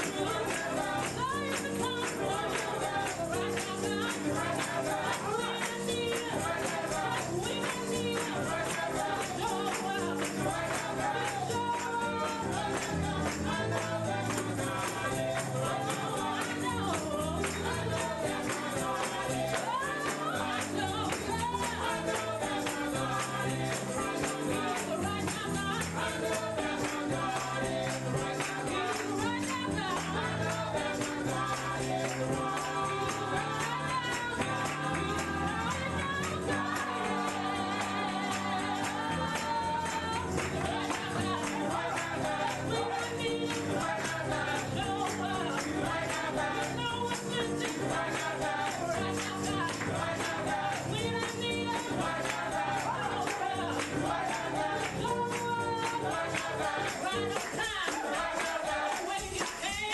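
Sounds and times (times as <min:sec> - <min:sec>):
tambourine shaken: 0:00.0 - 0:59.9
voices singing gospel: 0:00.0 - 0:59.9.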